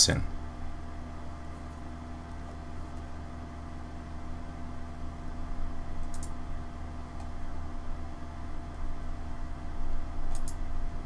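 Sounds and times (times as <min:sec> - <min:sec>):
microphone electrical hum and hiss: 0:00.0 - 0:11.0.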